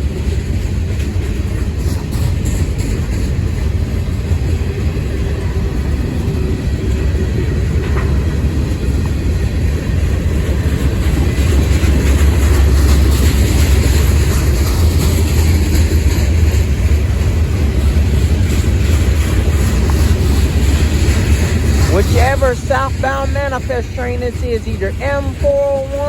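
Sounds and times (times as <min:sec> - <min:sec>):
freight train cars rolling past: 0:00.0 - 0:26.0.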